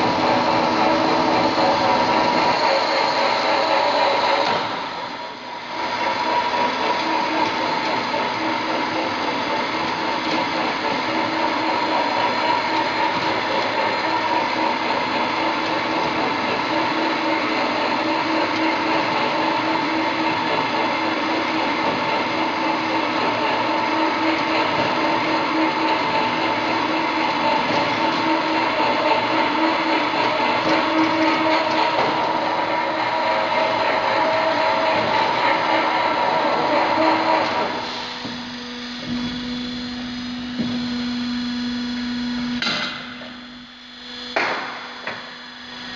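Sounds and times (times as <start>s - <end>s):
machine humming with steady tone: 0.0s - 45.9s.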